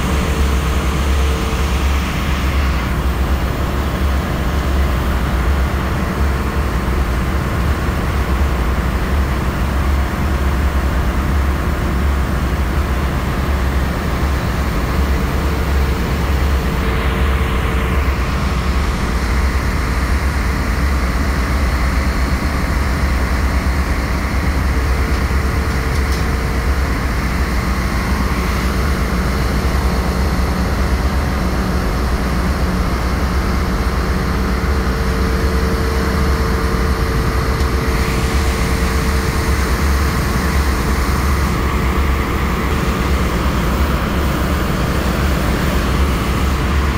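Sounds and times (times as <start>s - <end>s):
engine-room machinery drone: 0.0s - 46.9s.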